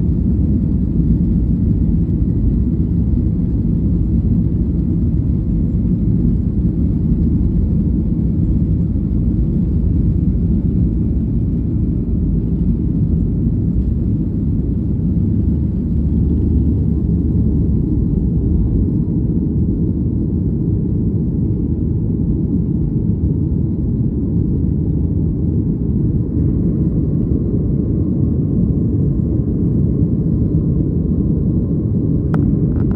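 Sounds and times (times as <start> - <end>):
airplane engines rumbling: 0.0 - 32.9.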